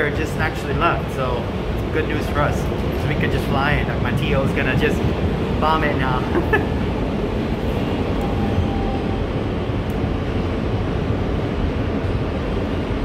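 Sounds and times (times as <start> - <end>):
subway car rumbling on rails: 0.0 - 13.0.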